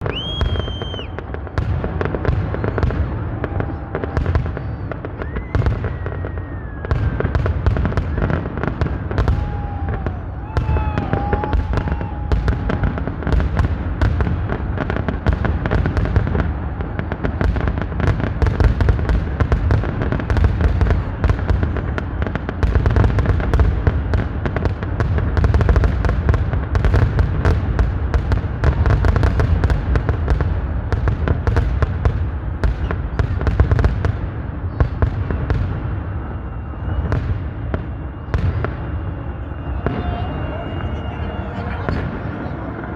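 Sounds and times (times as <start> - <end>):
fireworks crackling and banging: 0.0 - 42.9
fireworks whistling: 0.0 - 42.9.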